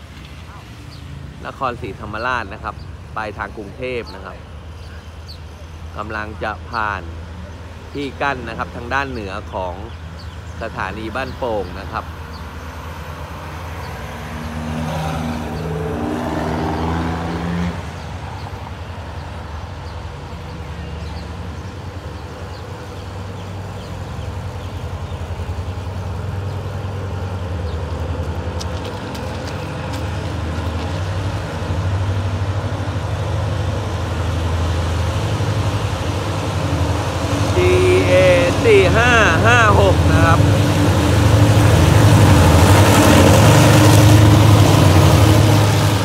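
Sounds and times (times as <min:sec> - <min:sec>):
locomotive engine hum: 0:00.0 - 0:46.0
road traffic: 0:00.0 - 0:46.0.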